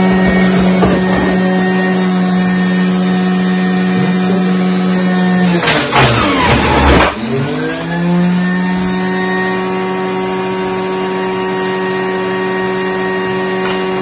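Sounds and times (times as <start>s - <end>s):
juicer grinding food: 0.0s - 14.0s
juicer motor whining: 0.0s - 14.0s.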